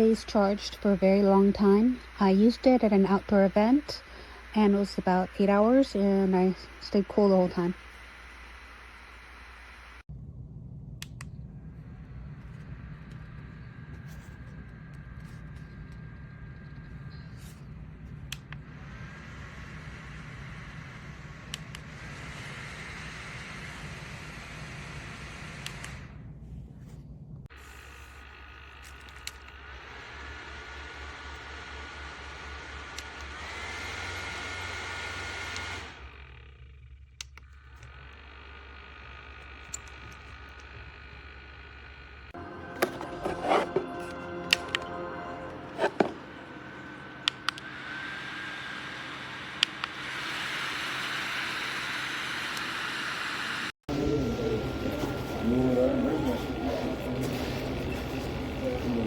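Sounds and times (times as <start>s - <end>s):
electric fan whirring: 0.0s - 26.8s, 27.5s - 59.0s.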